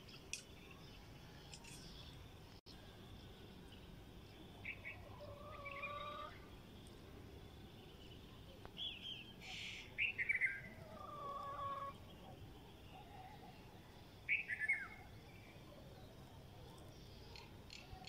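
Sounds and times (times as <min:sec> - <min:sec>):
birds chirping: 0:00.0 - 0:18.0
lower steady bird call: 0:00.0 - 0:18.0.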